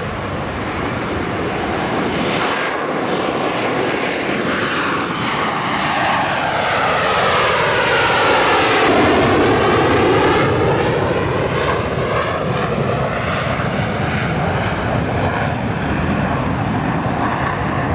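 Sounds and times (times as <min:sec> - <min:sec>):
jet flying low past: 0:00.0 - 0:17.9.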